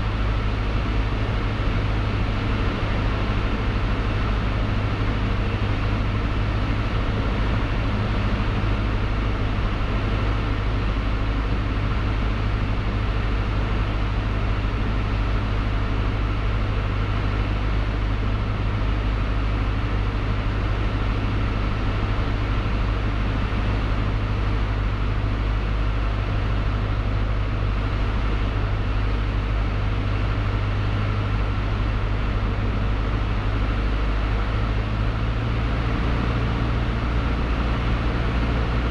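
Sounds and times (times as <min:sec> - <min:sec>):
airplane engine drone: 0:00.0 - 0:38.9.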